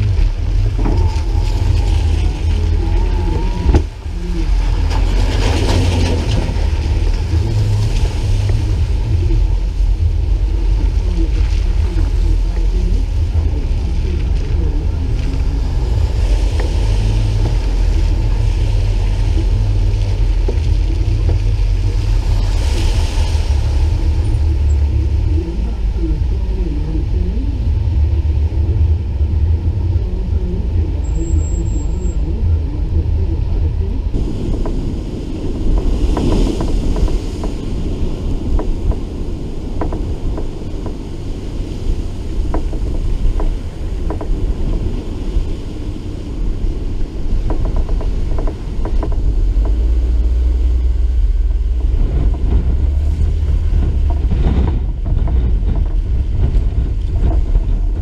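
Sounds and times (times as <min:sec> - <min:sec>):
car running: 0:00.0 - 0:58.0
tyres on wet sandy road: 0:00.0 - 0:58.0
wind buffeting microphone: 0:00.0 - 0:58.0.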